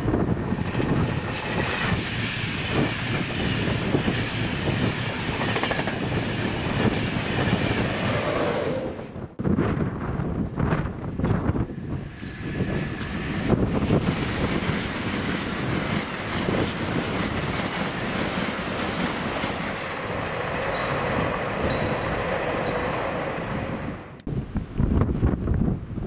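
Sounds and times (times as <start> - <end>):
high-speed train passing: 0.0 - 25.7.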